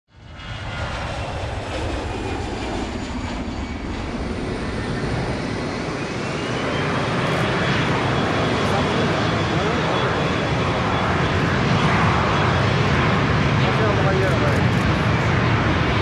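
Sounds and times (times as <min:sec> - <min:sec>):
jet engines rumbling: 0:00.1 - 0:16.0.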